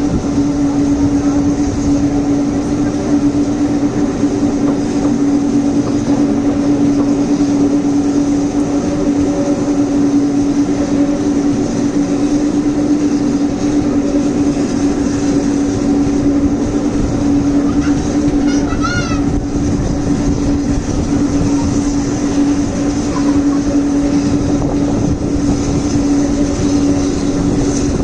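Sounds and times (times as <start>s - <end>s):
steam train running: 0.0s - 28.0s.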